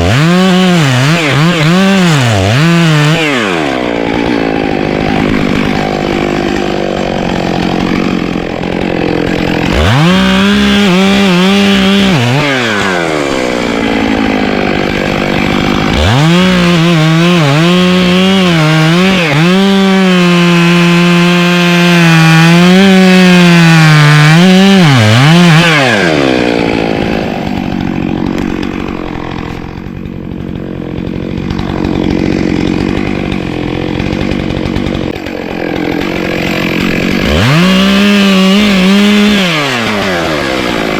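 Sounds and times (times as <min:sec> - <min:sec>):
chainsaw idling and cutting wood: 0:00.0 - 0:40.9.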